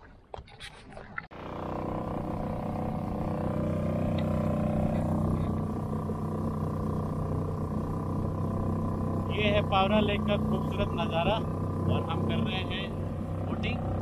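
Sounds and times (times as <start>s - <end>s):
outboard motor running: 1.3s - 14.0s.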